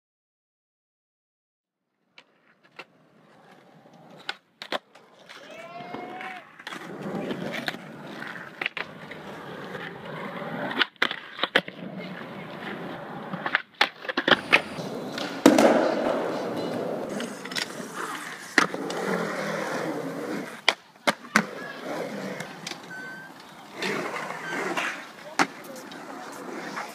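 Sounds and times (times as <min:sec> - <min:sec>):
skateboard wheels rolling on concrete: 0:02.0 - 0:26.9
skateboard clacking on ground: 0:02.2 - 0:26.9.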